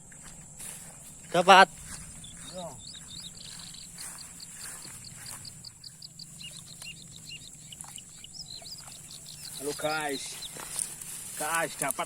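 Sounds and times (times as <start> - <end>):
steady high-pitched hiss: 0.0 - 12.0
bird chirping: 0.1 - 12.0.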